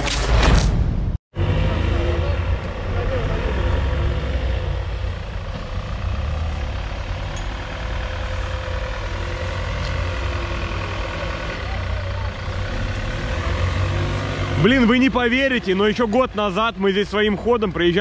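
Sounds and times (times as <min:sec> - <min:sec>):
vehicle engine rumbling at low revs: 0:01.4 - 0:18.0.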